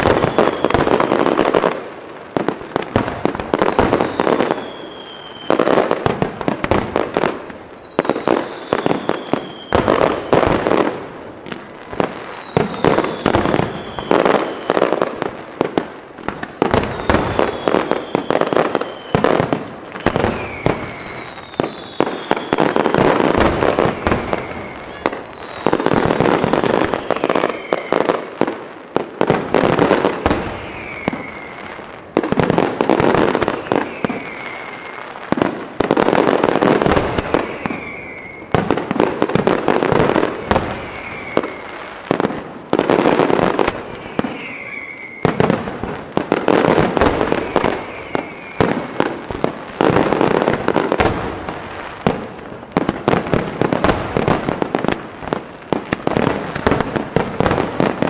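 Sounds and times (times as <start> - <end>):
whistling firework shells: 0.0 - 1.7, 2.8 - 10.9, 11.5 - 28.5, 29.2 - 51.2
firework bangs and crackling: 0.0 - 58.0.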